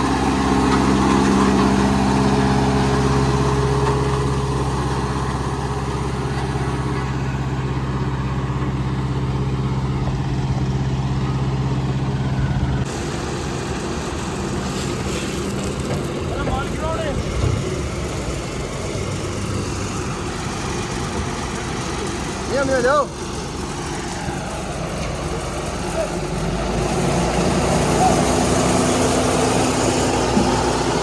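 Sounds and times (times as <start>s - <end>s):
heavy machinery engine humming: 0.0s - 31.0s.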